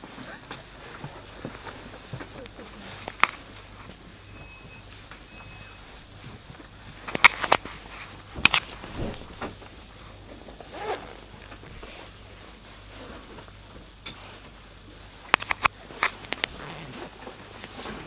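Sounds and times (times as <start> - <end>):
train carriage hum: 0.0 - 18.0.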